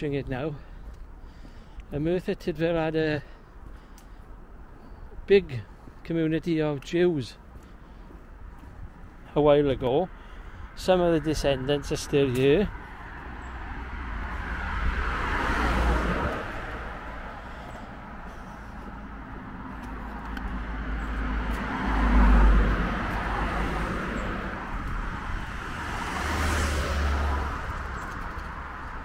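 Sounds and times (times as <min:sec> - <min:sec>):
cars passing on road: 0:00.0 - 0:29.0.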